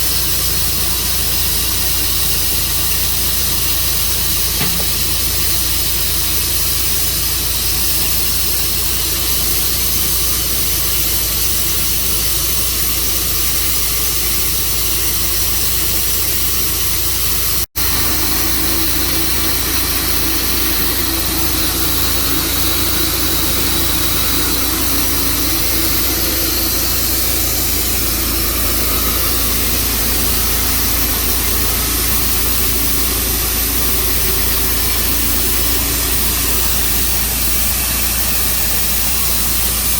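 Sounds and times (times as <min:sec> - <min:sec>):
sawmill engine and blade: 0:00.0 - 0:39.9.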